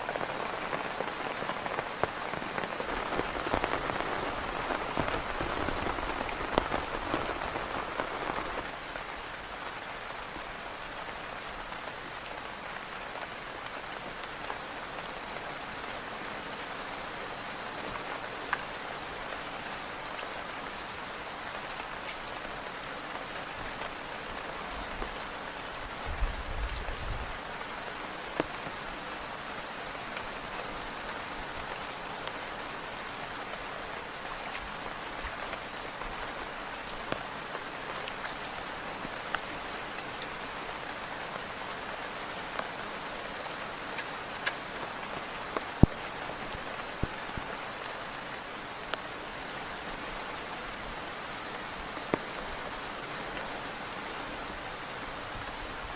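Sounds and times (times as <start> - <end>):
heavy rain on a tent: 0.0 - 55.9.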